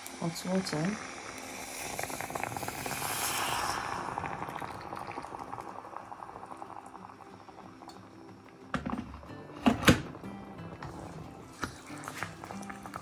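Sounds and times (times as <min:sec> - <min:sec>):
fine crackling simmer: 0:00.0 - 0:13.0
hot water pouring and bubbling: 0:00.0 - 0:13.0.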